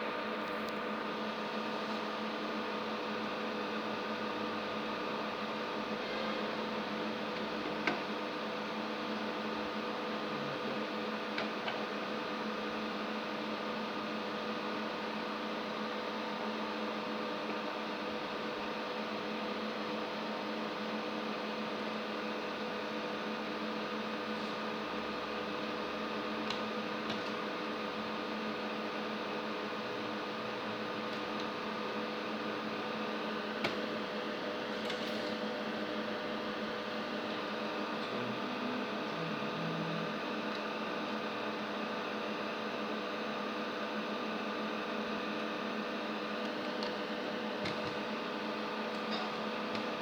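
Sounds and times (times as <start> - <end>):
machine hum with air hiss: 0.0 - 50.0.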